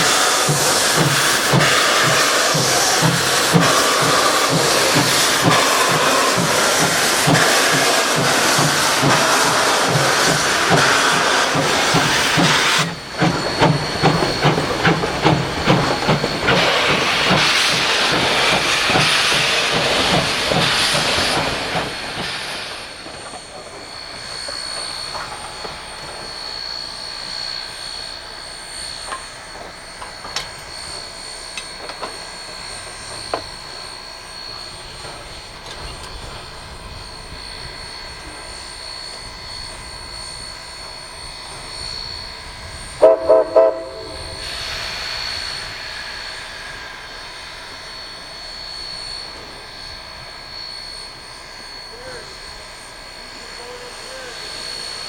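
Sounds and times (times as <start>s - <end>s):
steam hissing: 0.0s - 55.0s
train wheels rumbling: 0.0s - 55.0s.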